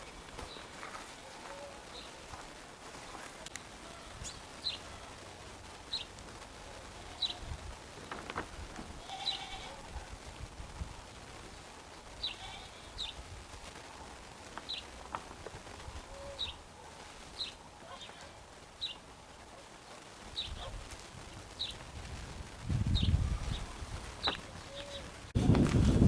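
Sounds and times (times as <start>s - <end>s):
songbirds chirping: 0.0s - 25.6s.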